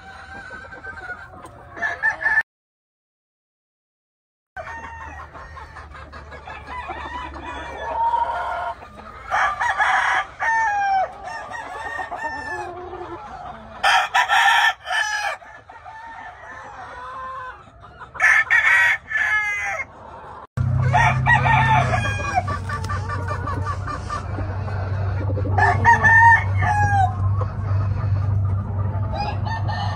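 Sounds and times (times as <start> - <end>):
chickens clucking: 0.0 - 2.4, 4.6 - 29.9
roosters crowing: 0.0 - 2.4, 4.6 - 19.9, 20.6 - 29.9.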